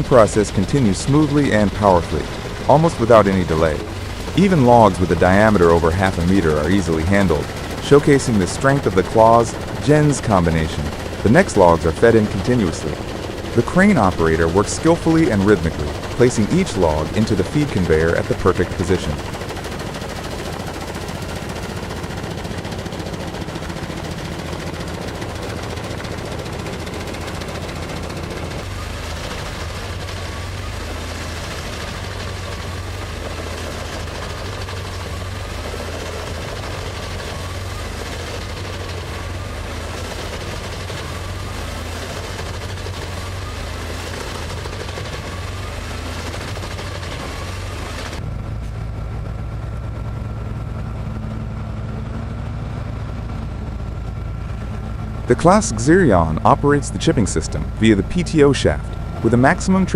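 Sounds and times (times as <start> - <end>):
wood chipper chipping logs: 0.0 - 59.9.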